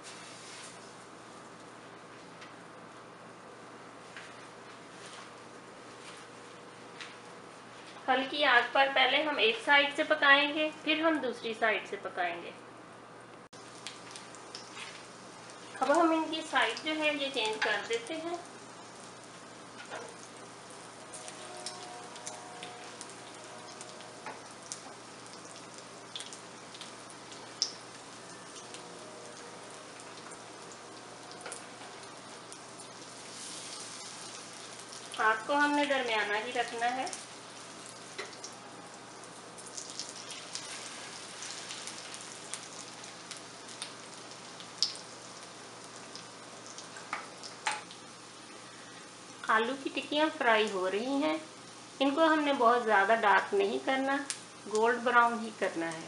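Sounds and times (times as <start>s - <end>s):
frying sizzle with crackling pops: 0.0s - 3.0s, 13.4s - 56.0s.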